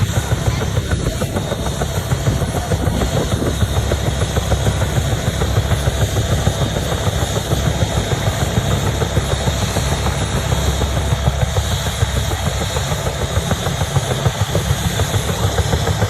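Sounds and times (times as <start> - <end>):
helicopter engine: 0.0 - 16.0
helicopter rotor beating: 0.0 - 16.0.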